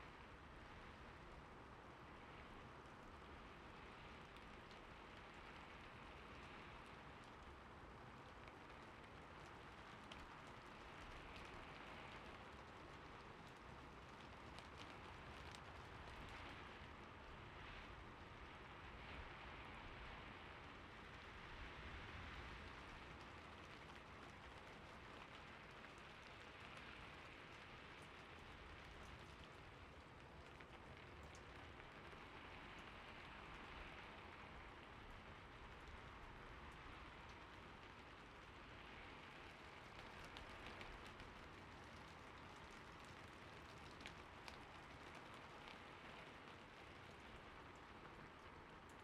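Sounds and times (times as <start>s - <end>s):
faint gentle rain: 0.0s - 49.0s.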